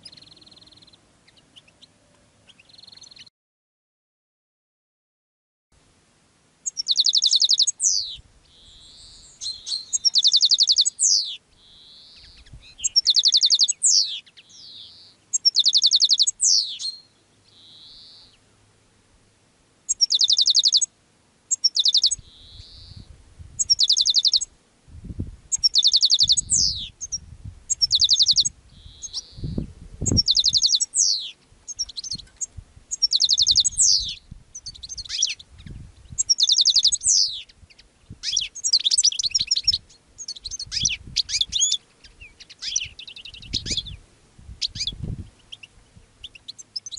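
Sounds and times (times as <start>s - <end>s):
goldfinch singing buzzy trills: 0.0s - 3.3s, 6.6s - 18.5s, 19.9s - 24.6s, 25.5s - 46.9s.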